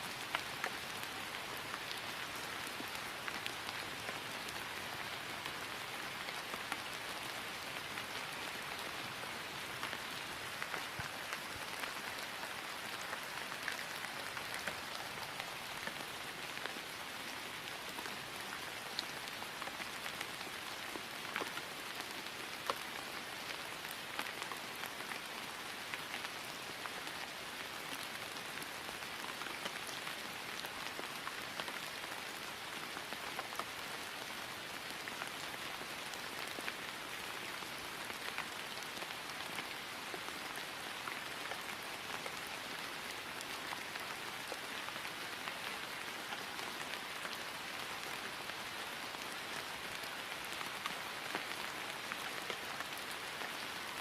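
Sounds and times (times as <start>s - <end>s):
rain falling on grass: 0.0s - 54.0s.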